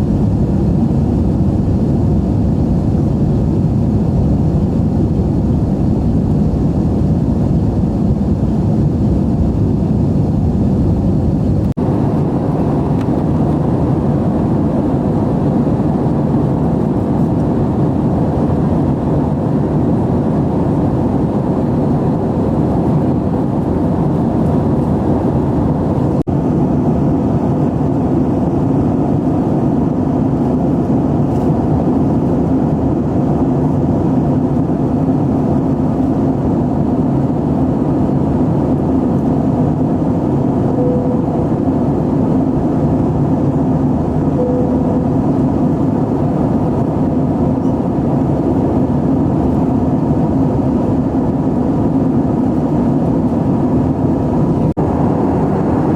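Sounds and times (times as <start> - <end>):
airplane cabin noise in flight: 0.0 - 55.9.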